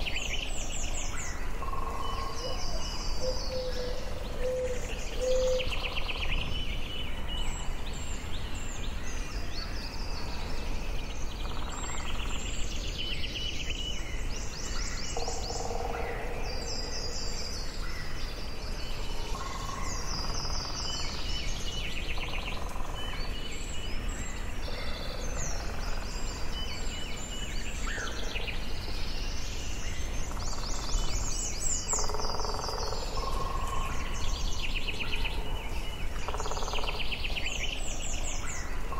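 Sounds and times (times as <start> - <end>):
songbirds singing trilled phrases: 0.0 - 38.9.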